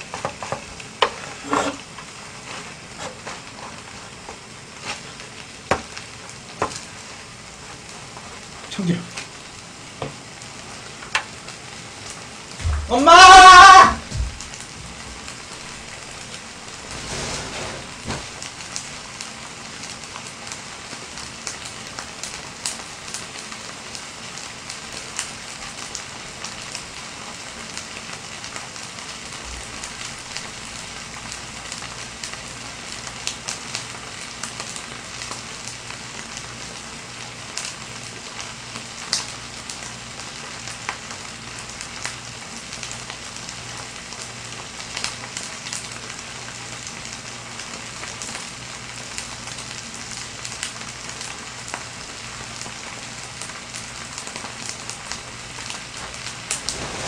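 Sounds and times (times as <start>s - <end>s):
food sizzling in a pot: 0.0s - 57.0s.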